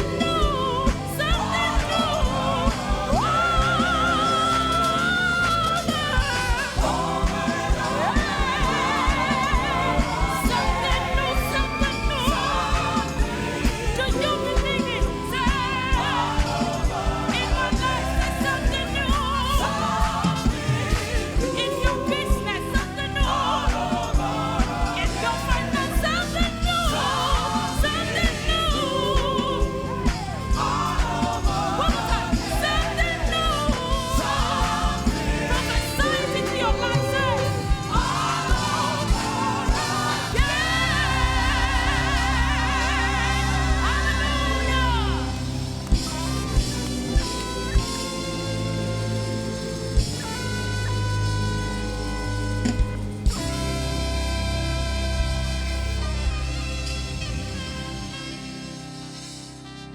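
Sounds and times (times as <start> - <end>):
steady drum beat: 0.0 - 57.5
gospel singing with band: 0.0 - 59.9.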